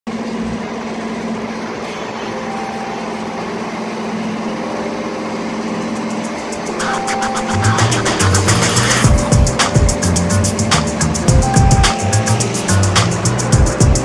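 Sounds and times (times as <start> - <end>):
welding generator engine droning: 0.1 - 14.0.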